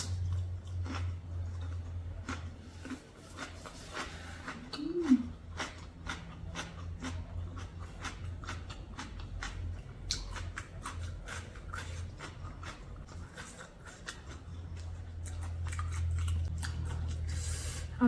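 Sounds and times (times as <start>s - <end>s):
wet chewing and lip-smacking: 0.0s - 17.8s
low steady hum: 0.0s - 18.0s.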